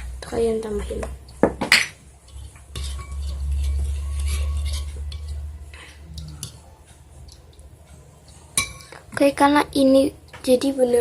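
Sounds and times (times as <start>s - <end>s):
stirring with scraping noise: 2.0s - 11.0s.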